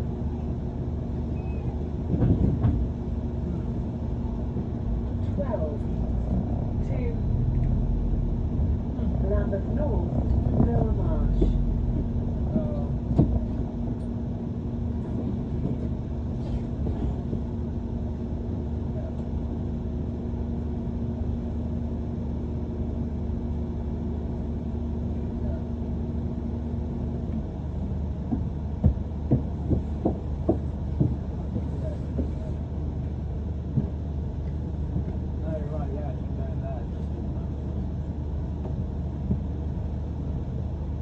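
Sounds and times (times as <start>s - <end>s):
bus body knocking and rattling: 0.0s - 19.7s, 26.1s - 41.0s
bus engine and road rumble: 0.0s - 41.0s.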